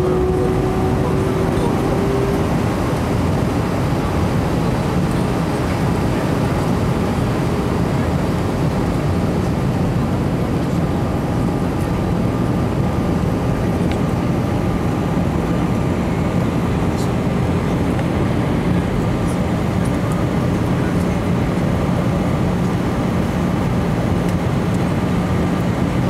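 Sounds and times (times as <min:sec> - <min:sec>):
airliner jet engine noise: 0:00.0 - 0:26.0.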